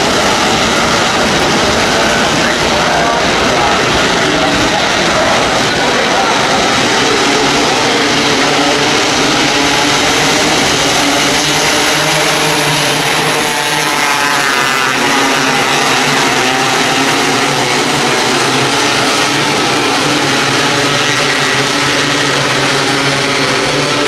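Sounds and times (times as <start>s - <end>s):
car passing with pitch sweep: 0.0s - 24.0s
racing car engines droning: 0.0s - 24.0s.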